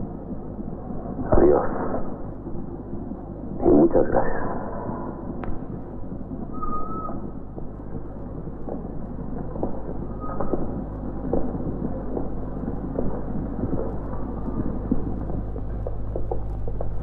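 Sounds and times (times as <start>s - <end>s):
film soundtrack crackling: 0.0s - 17.0s
low hum: 0.0s - 17.0s.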